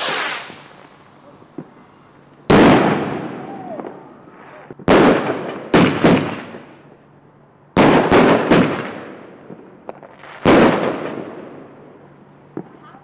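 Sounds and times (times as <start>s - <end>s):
fireworks bangs: 0.0s - 6.9s, 7.8s - 11.9s.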